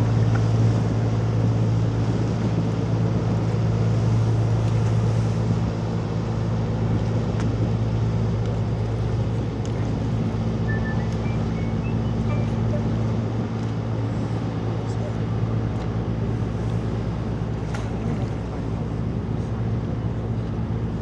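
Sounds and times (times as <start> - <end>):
marine engine humming: 0.0 - 21.0.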